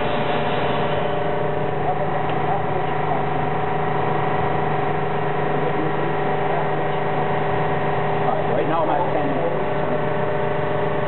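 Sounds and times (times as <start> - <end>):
paper cutter motor humming: 0.0 - 11.0.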